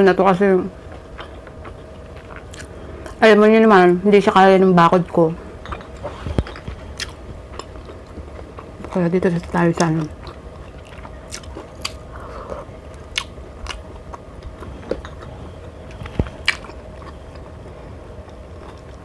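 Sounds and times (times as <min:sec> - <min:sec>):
faint steady hum: 0:00.0 - 0:19.0
chewing and crunching food: 0:00.8 - 0:03.2, 0:05.1 - 0:19.0.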